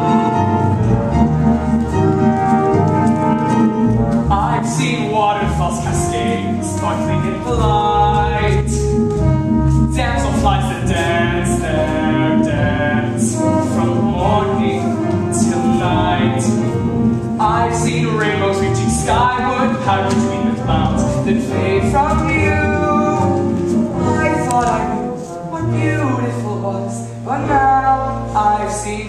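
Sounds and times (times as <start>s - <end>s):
orchestral accompaniment: 0.0s - 29.0s.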